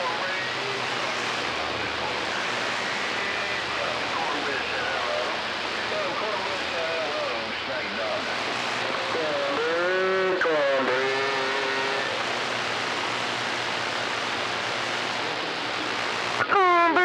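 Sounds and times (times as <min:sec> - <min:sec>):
faint radio voice: 0:00.0 - 0:17.0
radio static hiss: 0:00.0 - 0:17.0
strong radio signal: 0:00.0 - 0:17.0.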